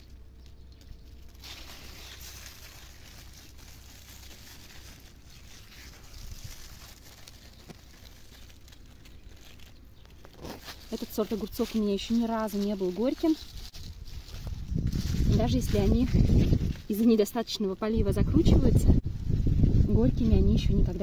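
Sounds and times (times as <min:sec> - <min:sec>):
plant leaves rustling: 0:00.0 - 0:21.0.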